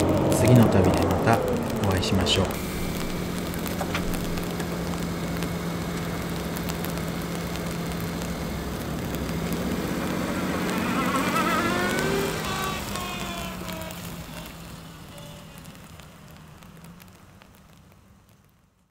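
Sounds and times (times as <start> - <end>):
truck engine running: 0.0 - 17.5.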